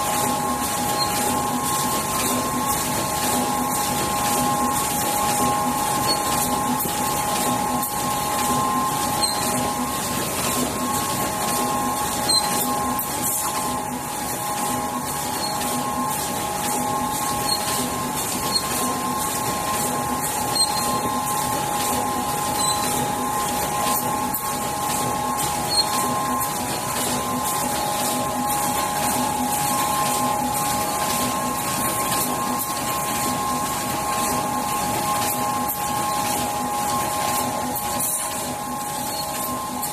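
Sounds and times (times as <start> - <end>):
machine noise: 0.0 - 39.9
mechanical clatter: 0.0 - 39.9
two-tone machine whine: 0.0 - 39.9.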